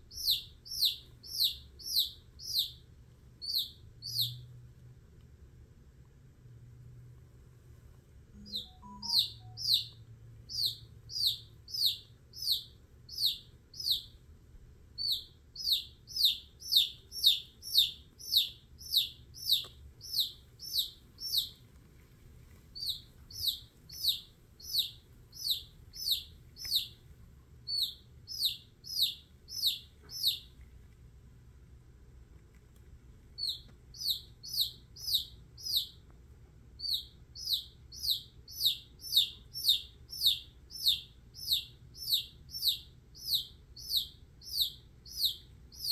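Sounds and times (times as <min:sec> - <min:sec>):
baby chick peeping: 0:00.0 - 0:04.9, 0:08.3 - 0:31.1, 0:31.7 - 0:45.9.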